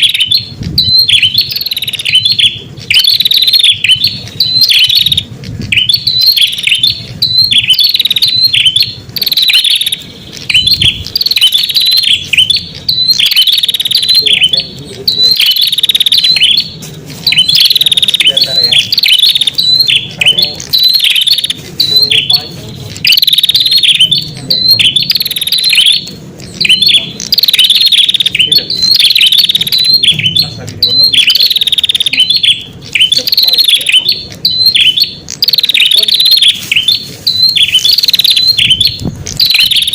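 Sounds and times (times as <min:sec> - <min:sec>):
bird rapid high chirping: 0:00.0 - 0:39.9.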